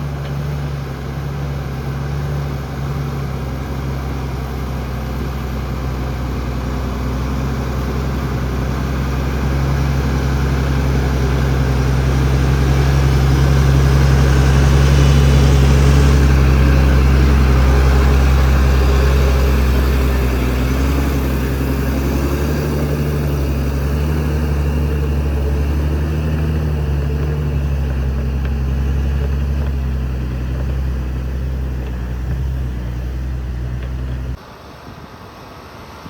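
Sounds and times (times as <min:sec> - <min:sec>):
heavy diesel engine running: 0:00.0 - 0:35.6.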